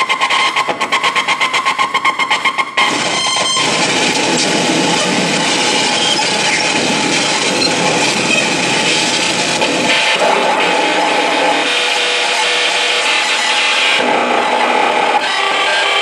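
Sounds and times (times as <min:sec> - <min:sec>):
harsh electronic noise music: 0:00.0 - 0:16.0.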